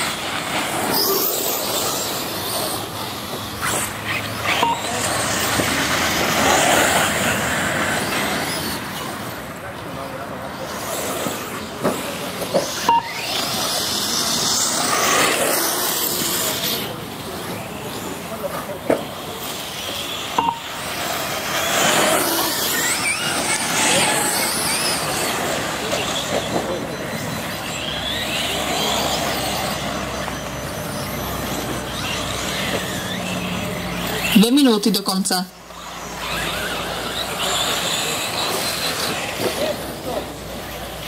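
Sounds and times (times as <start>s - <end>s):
electric motors whining: 0.0s - 41.0s.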